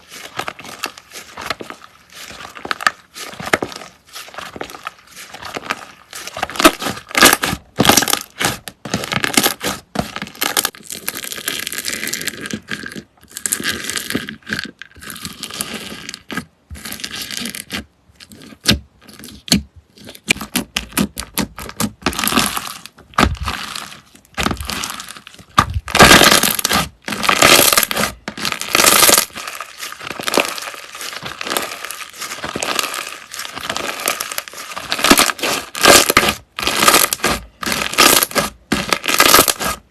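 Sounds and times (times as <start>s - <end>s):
slime crackling and crinkling: 0.0s - 39.9s.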